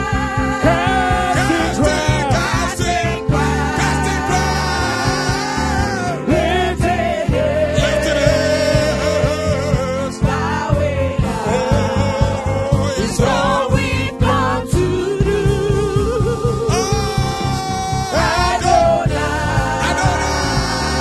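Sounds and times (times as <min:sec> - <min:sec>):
bass: 0:00.0 - 0:21.0
gospel singers: 0:00.0 - 0:21.0
keyboard: 0:00.0 - 0:21.0
quick steady beat: 0:00.0 - 0:21.0.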